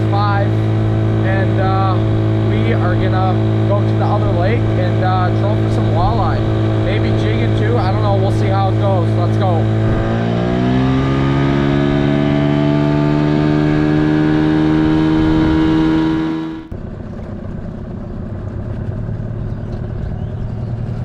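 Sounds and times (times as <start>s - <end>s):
low rough engine sound: 0.0s - 21.0s
outboard motor speeding up: 0.0s - 21.0s.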